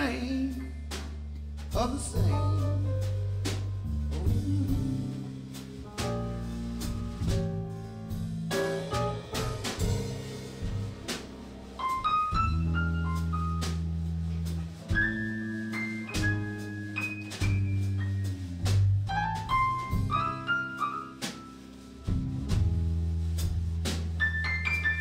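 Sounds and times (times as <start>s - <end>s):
band playing slow blues: 0.0s - 25.0s
drums keeping time: 0.0s - 25.0s
high lead melody: 2.3s - 25.0s.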